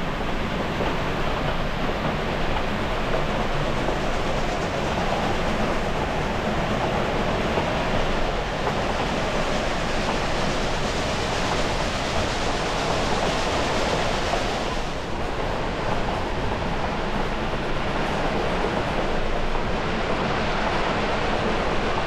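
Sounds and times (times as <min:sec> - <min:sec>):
railway coach rolling on track: 0:00.0 - 0:22.0.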